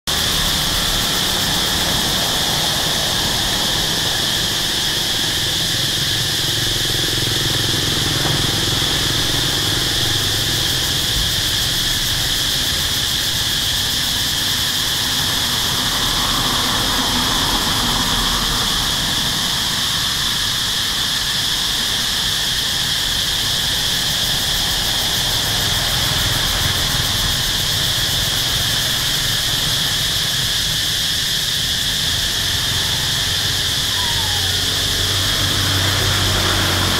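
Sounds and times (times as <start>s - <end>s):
high-pitched insect chorus: 0.1s - 36.9s.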